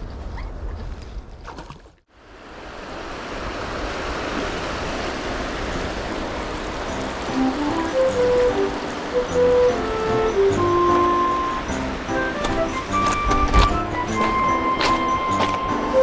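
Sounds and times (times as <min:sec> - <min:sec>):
river water flowing: 0:02.2 - 0:16.0.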